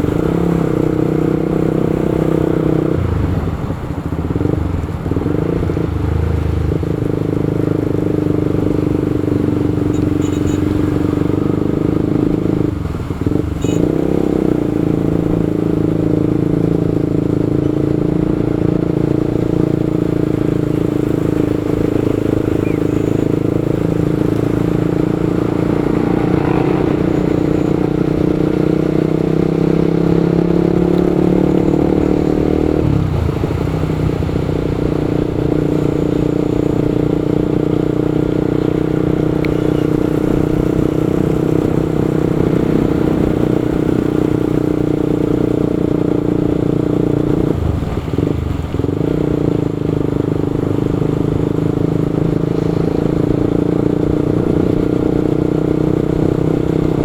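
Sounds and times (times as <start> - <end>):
motorcycle engine running: 0.0 - 57.0
traffic noise: 0.0 - 57.0.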